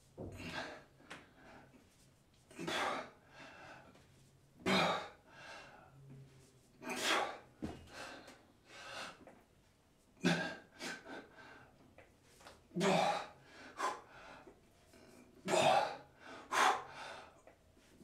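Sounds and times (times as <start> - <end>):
man breathing heavily: 0.2 - 4.1, 4.8 - 6.0, 6.8 - 9.4, 10.2 - 12.0, 12.8 - 18.0.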